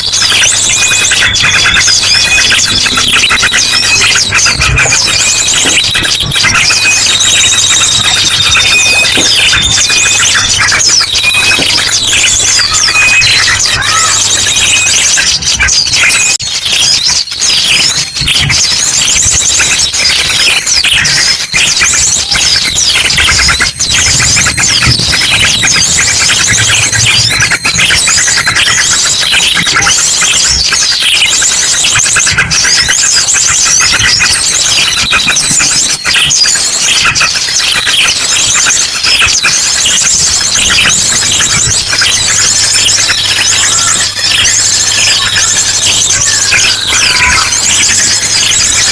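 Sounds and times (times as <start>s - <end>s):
drongo calls: 0.0s - 48.9s
small birds chirping and trilling: 0.0s - 48.9s.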